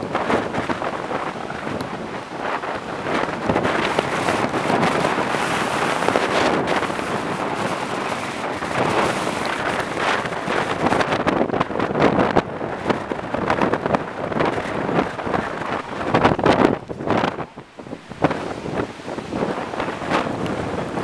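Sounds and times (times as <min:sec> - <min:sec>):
heavy surf breaking: 0:00.0 - 0:21.0
wind buffeting microphone: 0:00.0 - 0:21.0.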